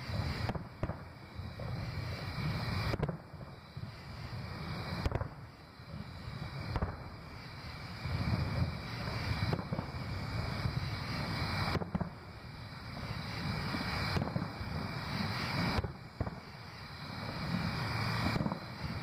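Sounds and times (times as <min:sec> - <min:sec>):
distant fireworks booming: 0:00.0 - 0:19.0
sharp firework reports: 0:00.0 - 0:19.0.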